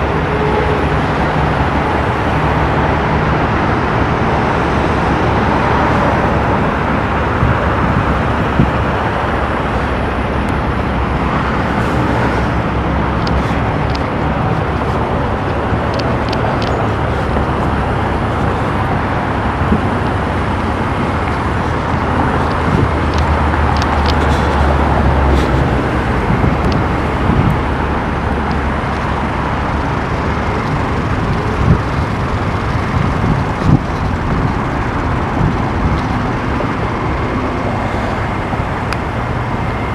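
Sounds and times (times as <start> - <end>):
diesel truck engines pulling away: 0.0 - 39.9
road traffic noise: 0.0 - 39.9.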